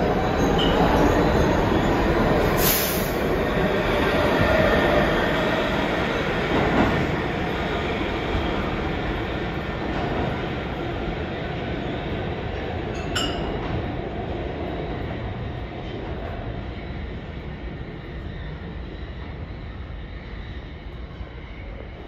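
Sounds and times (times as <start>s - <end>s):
subway train running past: 0.0s - 22.0s.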